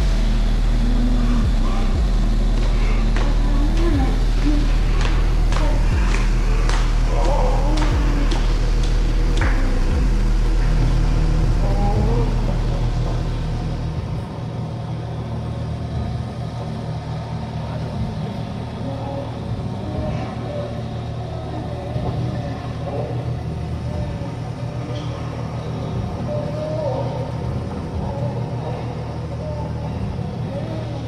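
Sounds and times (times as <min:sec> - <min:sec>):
low rumble with hum: 0:00.0 - 0:31.0.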